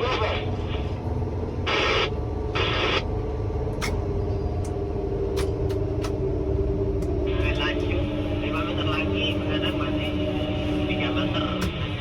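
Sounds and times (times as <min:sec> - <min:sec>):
machinery rumbling and humming: 0:00.0 - 0:12.0.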